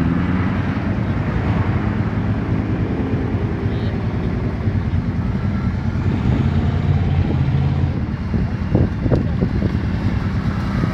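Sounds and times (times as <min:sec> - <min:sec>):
atv engine running: 0:00.0 - 0:10.9.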